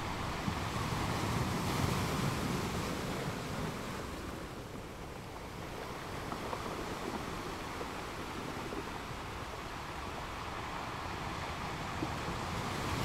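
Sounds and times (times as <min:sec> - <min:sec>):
rushing wind and sea: 0:00.0 - 0:13.0.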